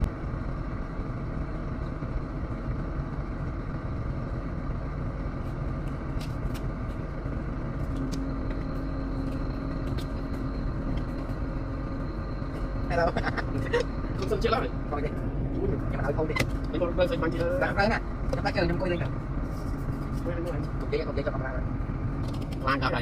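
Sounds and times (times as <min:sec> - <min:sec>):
excavator diesel engine running: 0:00.0 - 0:23.0
steady pitched hum: 0:00.0 - 0:23.0.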